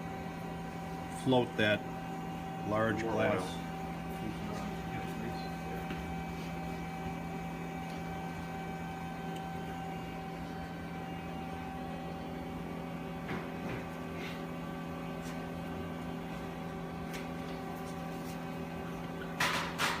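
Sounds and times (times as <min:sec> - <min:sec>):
steady machine hum with tones: 0:00.0 - 0:20.0.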